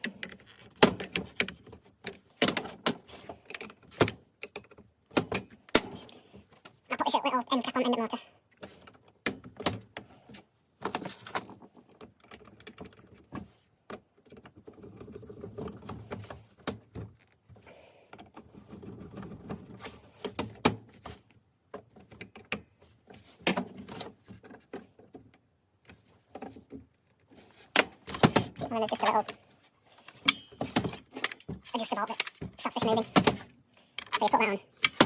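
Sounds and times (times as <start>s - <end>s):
parts clicking and knocking: 0.0s - 6.8s, 8.4s - 29.4s, 30.0s - 35.0s.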